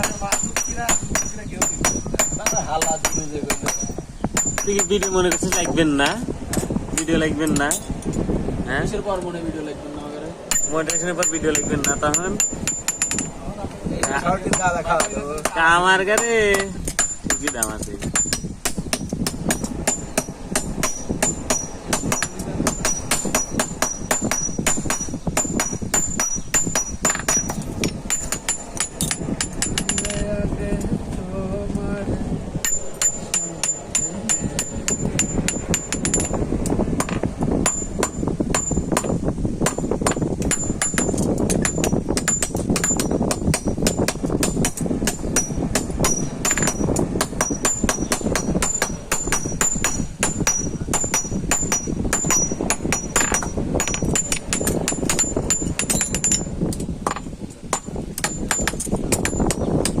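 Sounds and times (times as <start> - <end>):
hammer striking iron on anvil: 0.0 - 7.9, 10.5 - 13.4, 14.0 - 30.2, 32.6 - 36.4, 37.0 - 60.0
metallic ringing: 0.0 - 8.3, 10.5 - 30.9, 32.6 - 60.0.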